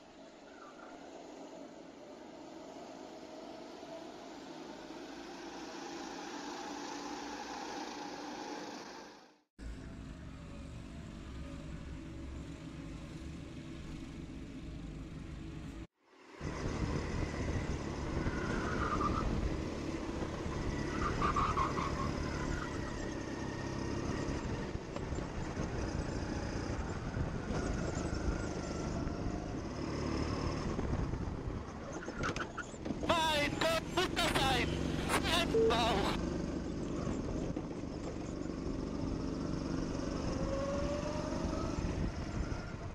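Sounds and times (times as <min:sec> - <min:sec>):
go-kart engine running: 0:03.0 - 0:15.6, 0:16.3 - 0:42.9.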